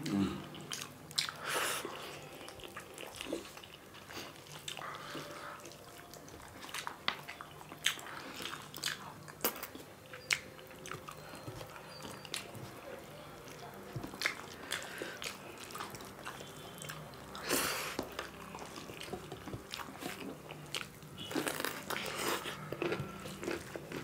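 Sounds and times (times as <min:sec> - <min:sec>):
people chewing and smacking lips: 0:00.0 - 0:24.0.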